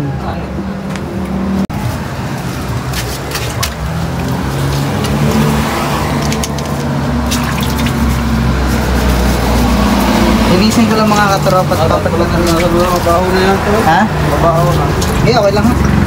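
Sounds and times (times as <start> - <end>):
steady engine hum: 0.0 - 16.0
water splashing and dripping: 2.8 - 16.0.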